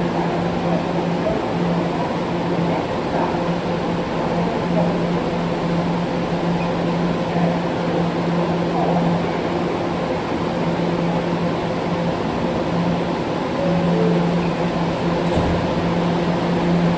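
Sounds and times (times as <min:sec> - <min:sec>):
subway machinery hum: 0:00.0 - 0:16.9.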